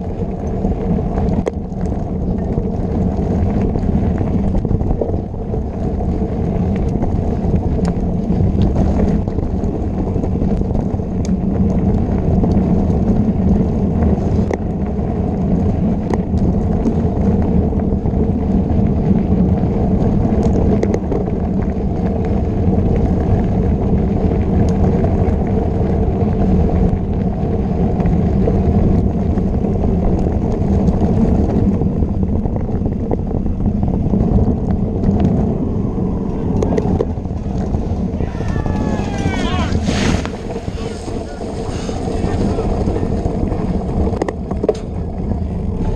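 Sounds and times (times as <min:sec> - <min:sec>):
bike clicks and rattles: 0:00.0 - 0:45.9
tyres rumbling on dirt: 0:00.0 - 0:45.9
wind: 0:00.0 - 0:45.9.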